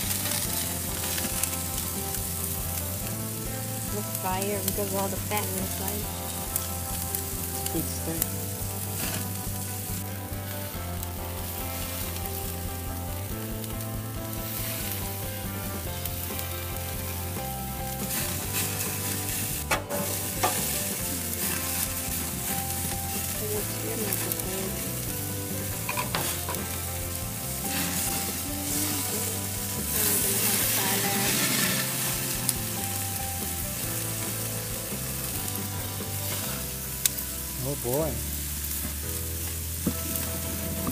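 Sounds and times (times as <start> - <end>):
fat flaring in flames: 0.0 - 40.9
steaks sizzling on a grill: 0.0 - 40.9.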